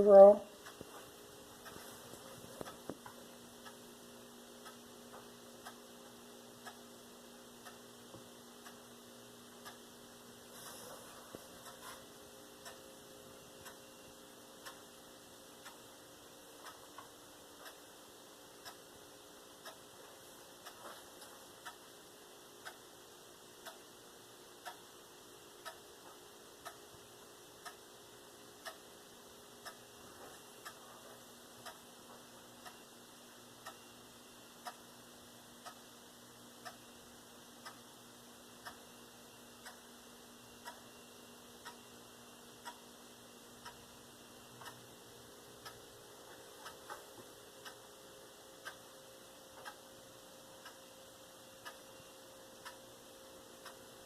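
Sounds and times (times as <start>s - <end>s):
clock ticking: 0.0s - 54.0s
low room hum: 0.0s - 54.0s.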